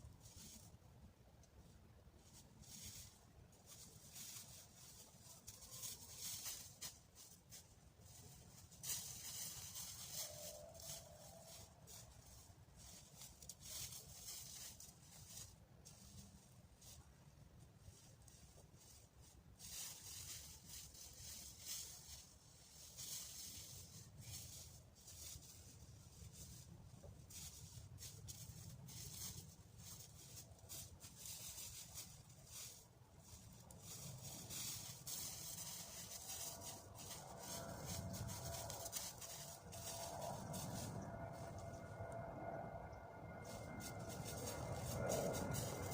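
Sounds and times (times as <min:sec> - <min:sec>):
dry leaves rustling: 0:00.0 - 0:45.9
low wind rumble: 0:06.0 - 0:17.9, 0:19.4 - 0:45.9.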